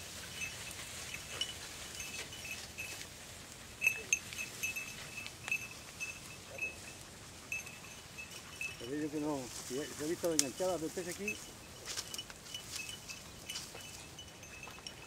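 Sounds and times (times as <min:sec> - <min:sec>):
dog collar bells jingling: 0:00.0 - 0:15.0.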